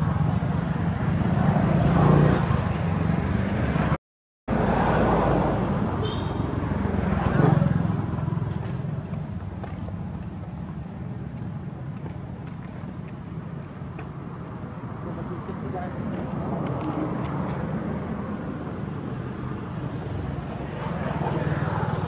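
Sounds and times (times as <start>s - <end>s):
vehicle passing on road: 0.0s - 22.0s.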